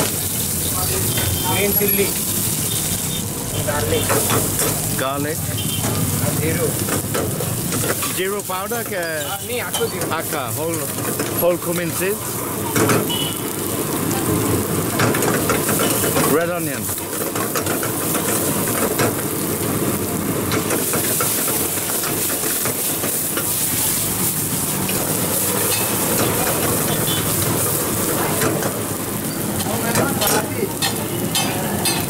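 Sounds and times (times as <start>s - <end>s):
onion sizzling in hot oil: 0.0s - 32.0s.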